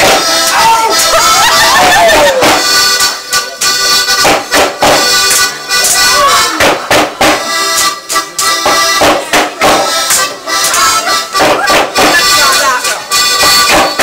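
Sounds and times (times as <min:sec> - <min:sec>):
folk dance music: 0:00.0 - 0:14.0
sharp strikes of dancers: 0:00.0 - 0:14.0.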